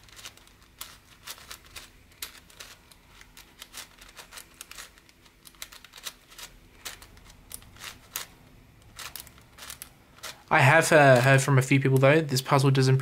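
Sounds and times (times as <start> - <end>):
puzzle cube layers clicking: 0.1 - 12.1.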